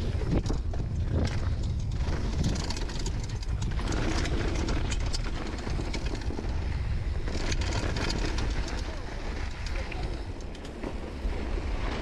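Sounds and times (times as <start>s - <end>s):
bike clattering over rough ground: 0.0s - 12.0s
tyres clicking on loose dirt: 0.0s - 12.0s
wind rumble on microphone: 0.0s - 12.0s.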